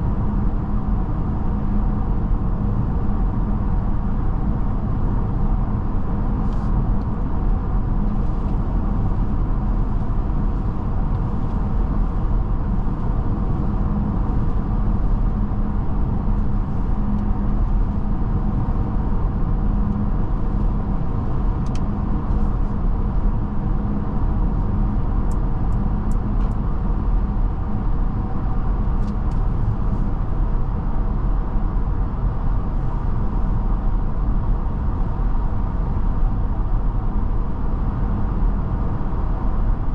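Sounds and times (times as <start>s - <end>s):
road and tyre noise in car: 0.0s - 39.9s.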